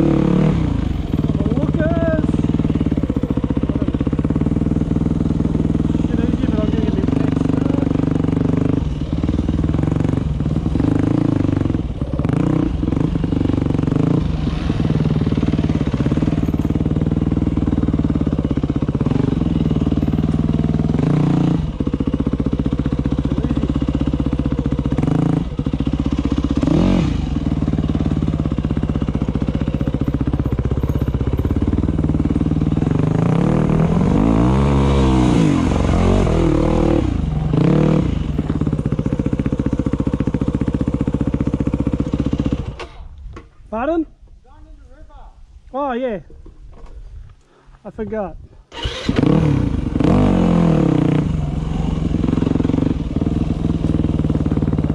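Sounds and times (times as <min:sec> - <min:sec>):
dirt bike engine revving: 0:00.0 - 0:43.1, 0:48.7 - 0:54.9.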